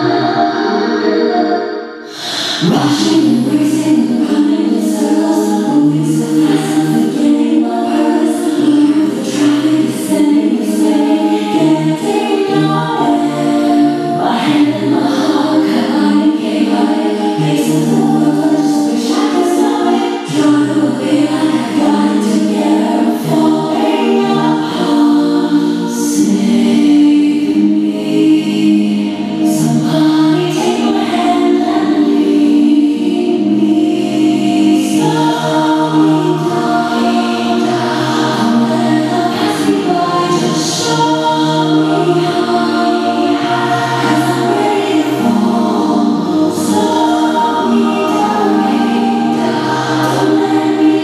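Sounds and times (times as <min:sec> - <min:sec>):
choir-like singing over chords: 0:00.0 - 0:51.0.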